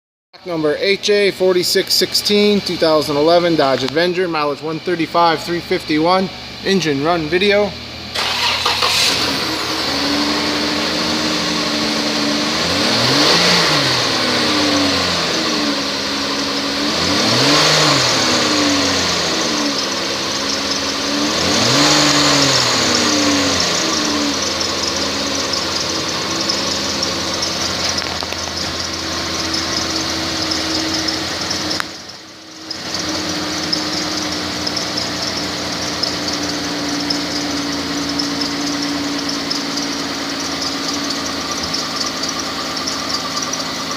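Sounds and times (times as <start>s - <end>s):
car engine idling and revving: 1.5s - 43.9s.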